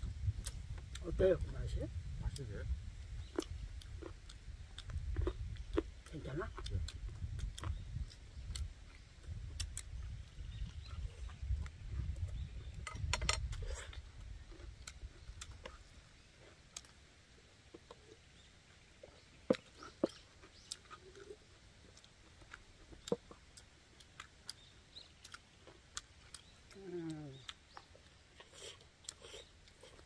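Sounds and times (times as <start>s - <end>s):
people chewing: 2.2s - 30.0s.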